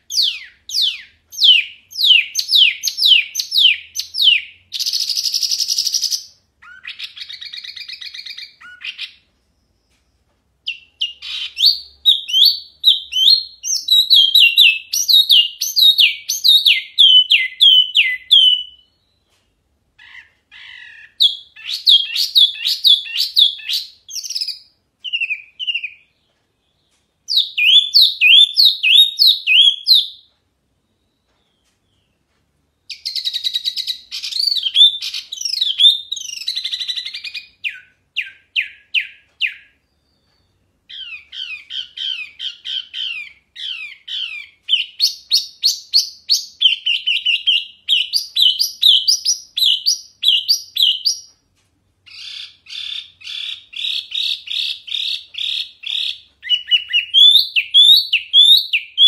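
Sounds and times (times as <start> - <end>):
songbird whistling: 0.0 - 9.2, 10.6 - 19.2, 20.0 - 30.3, 32.7 - 51.3, 52.1 - 59.0.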